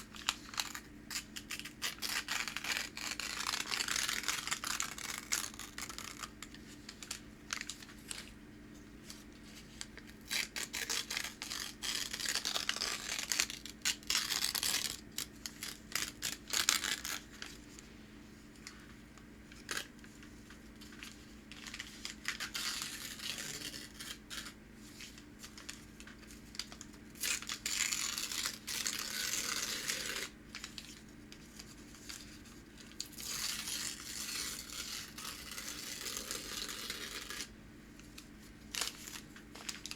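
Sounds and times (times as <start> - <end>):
paper tearing and crinkling: 0.1 - 8.3, 10.1 - 17.6, 20.8 - 39.9.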